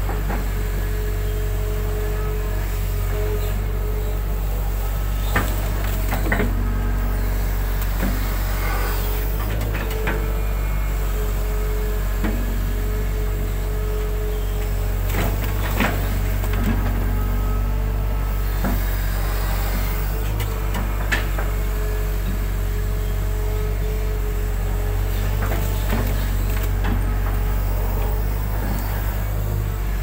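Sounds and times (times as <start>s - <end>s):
excavator engine drone: 0.0s - 30.0s
hydraulic whine: 0.0s - 30.0s.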